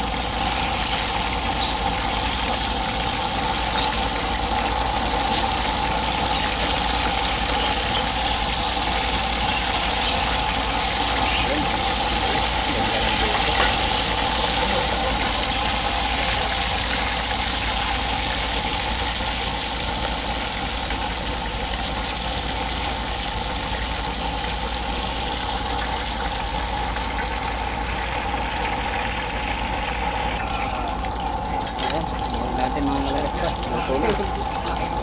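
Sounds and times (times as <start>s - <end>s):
fish sizzling in hot oil: 0.0s - 35.0s.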